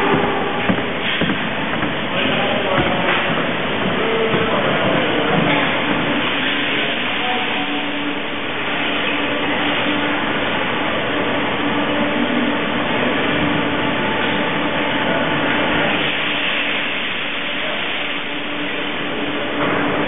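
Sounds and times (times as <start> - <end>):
milking machine hissing and humming: 0.0 - 20.0.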